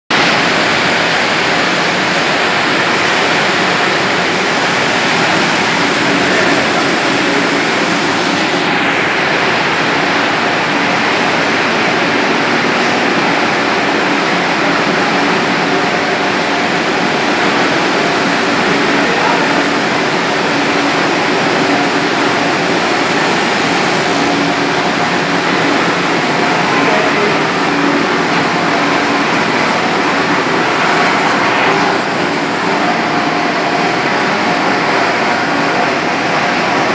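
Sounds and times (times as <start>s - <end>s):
cooling fans rushing air: 0.1s - 36.9s
faint machine hum: 0.2s - 36.9s.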